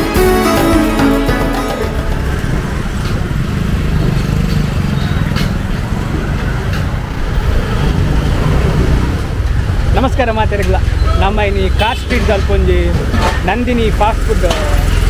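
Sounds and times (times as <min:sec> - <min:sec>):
traffic rumble: 0:01.7 - 0:15.0.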